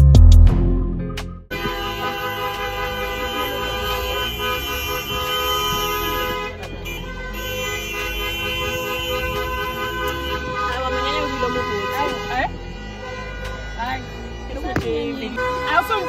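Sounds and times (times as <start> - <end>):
horns blaring together: 1.5 - 16.0.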